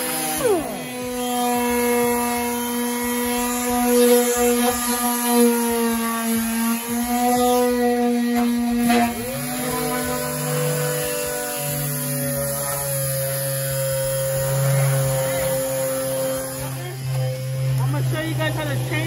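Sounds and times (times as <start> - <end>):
electric sander motor whine: 0.0 - 19.0.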